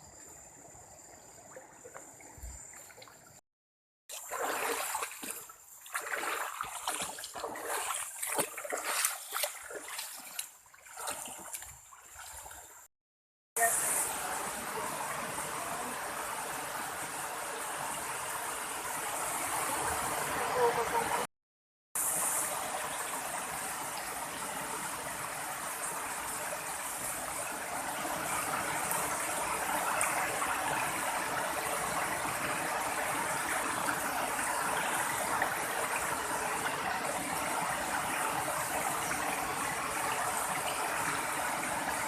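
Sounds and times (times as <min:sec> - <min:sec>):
running water rushing: 0:04.1 - 0:12.9, 0:13.6 - 0:21.3, 0:22.0 - 0:42.0.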